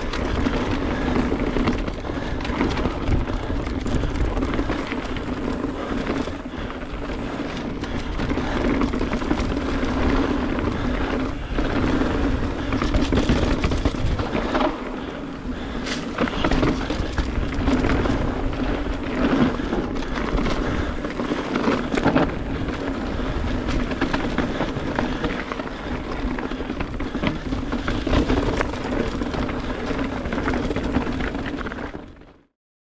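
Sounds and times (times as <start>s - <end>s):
wind noise on microphone: 0.0s - 32.4s
bike chain and frame rattling: 0.0s - 32.5s
bike tyres rolling over rock: 0.0s - 32.5s.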